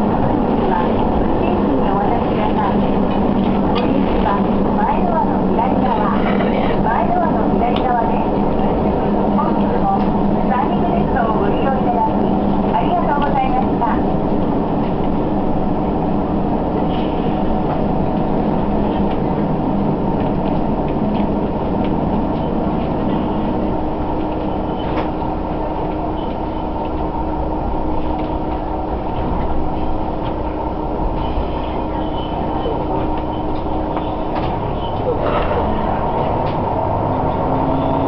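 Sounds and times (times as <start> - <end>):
train engine and wheels rumbling: 0.0 - 38.0.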